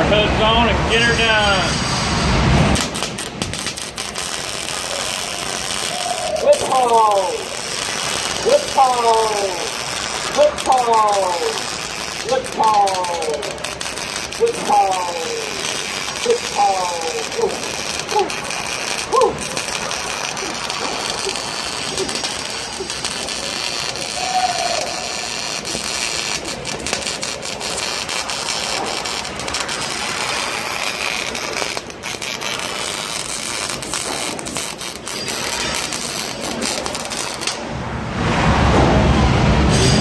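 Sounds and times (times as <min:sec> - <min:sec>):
welding arc crackling: 0:00.0 - 0:38.4.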